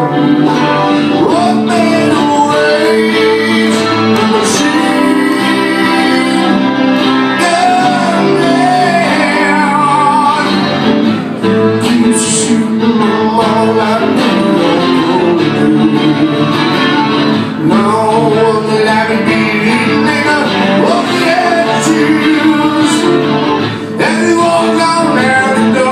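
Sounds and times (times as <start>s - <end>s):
acoustic guitars playing: 0.0s - 25.9s
man singing into a microphone: 0.0s - 25.9s.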